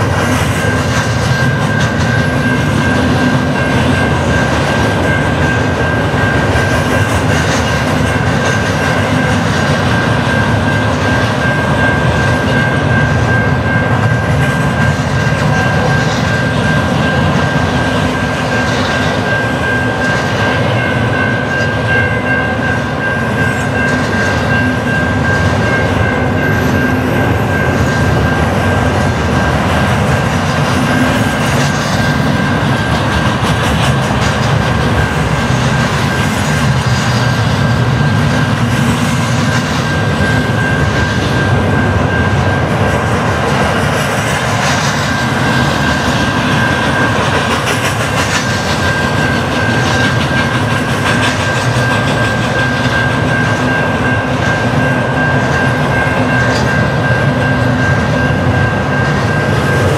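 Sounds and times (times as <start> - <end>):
freight train wheels rumbling: 0.0 - 59.9
steady high-pitched tone: 0.0 - 59.9.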